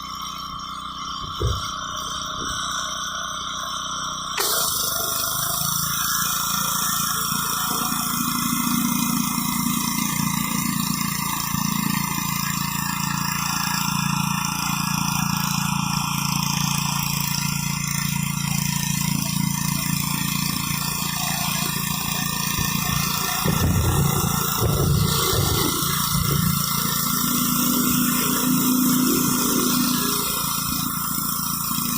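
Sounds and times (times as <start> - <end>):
pressure washer engine running: 0.0 - 31.9
water spray hissing on concrete: 4.3 - 31.9.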